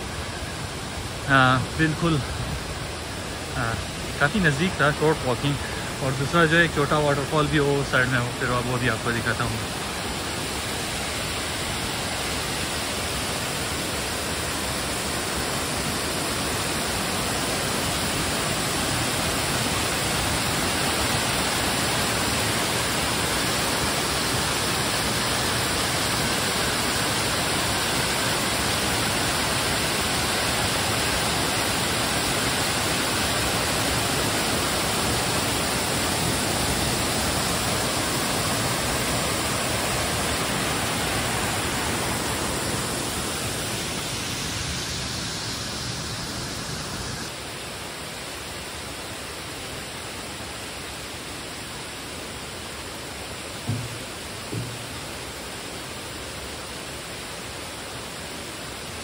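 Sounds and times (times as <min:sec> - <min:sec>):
waterfall pouring: 0:00.0 - 0:47.5, 0:52.8 - 0:56.5.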